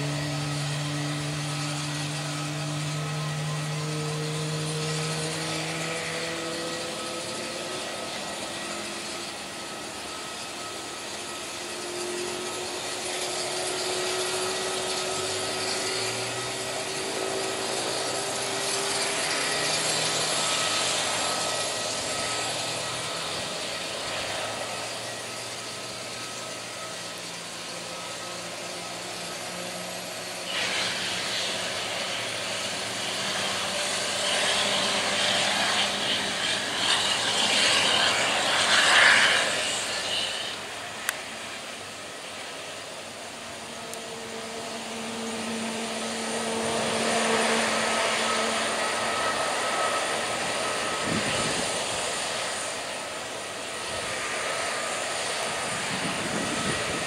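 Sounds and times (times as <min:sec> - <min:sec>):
jet engine whine and hiss: 0:00.0 - 0:57.0.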